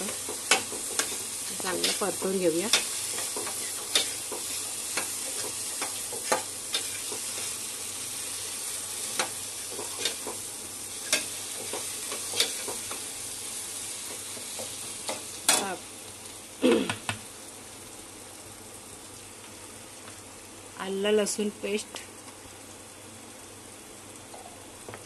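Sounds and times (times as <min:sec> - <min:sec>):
masala sizzling in a pot: 0:00.0 - 0:25.0.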